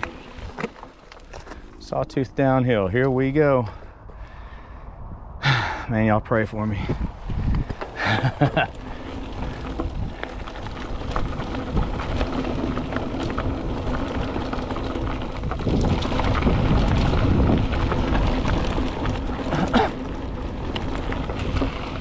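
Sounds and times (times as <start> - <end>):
bike rattles and clicks: 0.0 - 4.2, 6.8 - 22.0
bike tyres rolling on dirt: 0.0 - 4.6, 6.0 - 22.0
wind buffeting microphone: 1.4 - 22.0.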